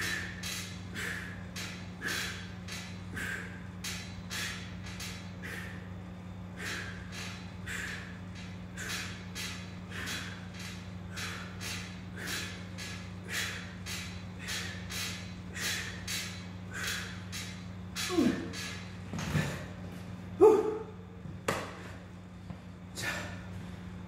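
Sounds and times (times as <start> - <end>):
man breathing hard: 0.0 - 19.8, 22.9 - 23.7
low steady hum: 0.0 - 24.0.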